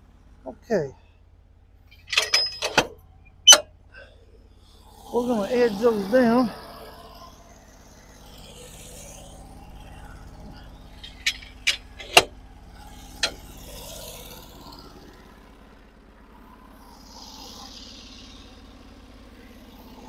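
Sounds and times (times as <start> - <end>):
sawmill engine running: 1.9 - 20.0.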